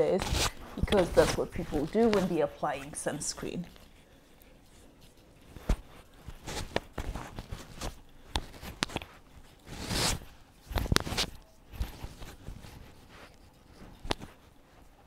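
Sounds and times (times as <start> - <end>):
scraping rustles: 0.0 - 15.0.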